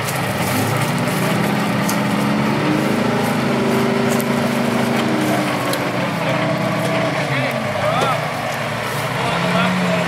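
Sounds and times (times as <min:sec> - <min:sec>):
tank engine revving: 0:00.0 - 0:10.0.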